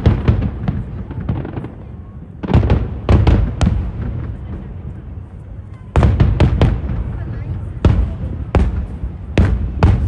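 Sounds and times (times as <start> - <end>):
fireworks bangs: 0.0 - 10.0
low rolling rumble and echoes: 0.0 - 10.0.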